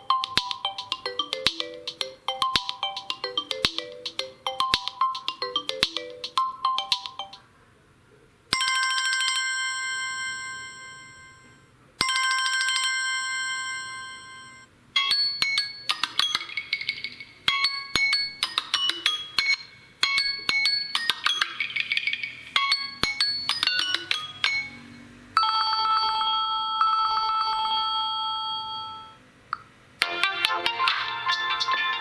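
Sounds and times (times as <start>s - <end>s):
bright ringtone of short notes: 0.0s - 7.4s, 8.6s - 29.2s
melodic ringtone: 0.0s - 7.4s, 8.6s - 29.2s, 30.0s - 32.0s.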